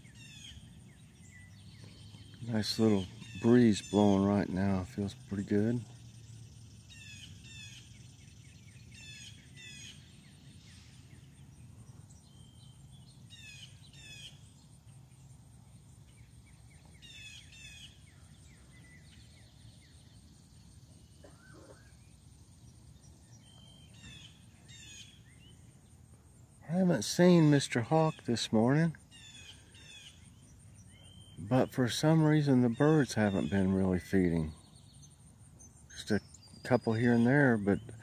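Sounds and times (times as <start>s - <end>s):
low rumble of breeze: 0.0s - 38.0s
songbirds singing: 0.0s - 38.0s.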